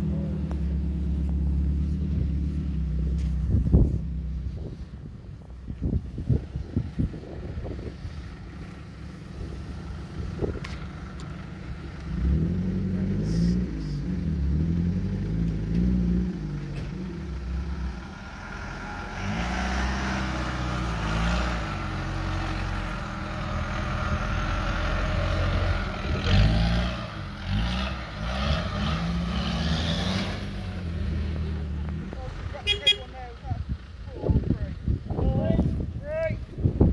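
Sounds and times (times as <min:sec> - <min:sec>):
diesel engine revving: 0:00.0 - 0:05.2, 0:06.0 - 0:35.2.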